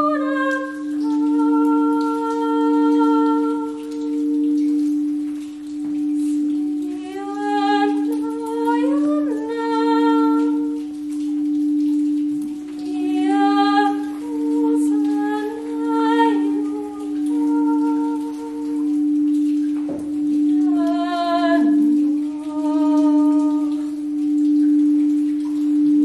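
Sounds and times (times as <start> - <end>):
person singing long notes: 0.0 - 26.0
singing bowl ringing: 0.0 - 26.0.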